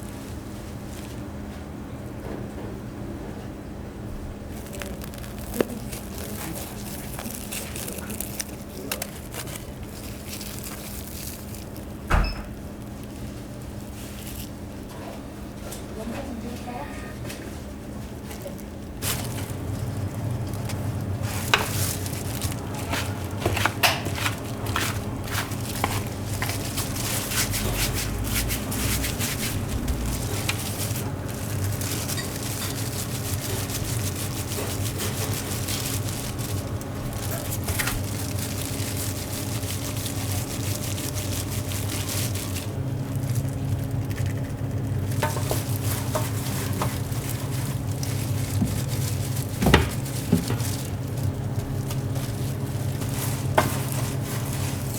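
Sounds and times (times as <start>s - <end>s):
low hum of kitchen equipment: 0.0s - 54.9s.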